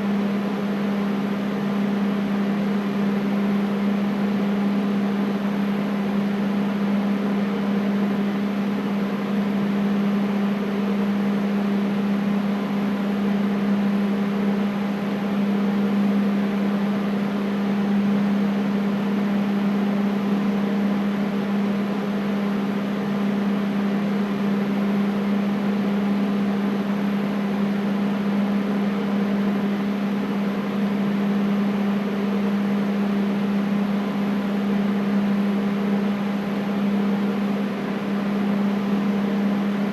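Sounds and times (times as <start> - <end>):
air conditioner hum: 0.0 - 39.9.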